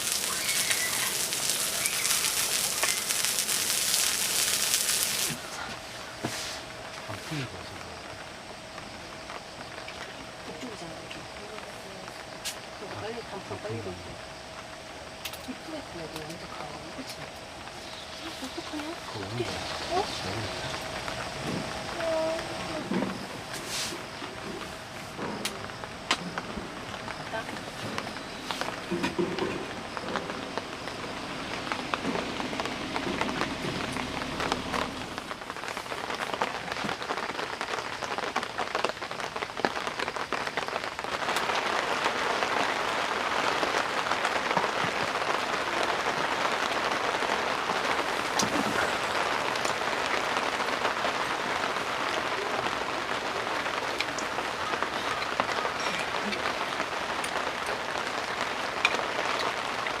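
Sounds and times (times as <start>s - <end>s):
heavy rain: 0.0s - 60.0s
raindrops ticking: 0.0s - 60.0s.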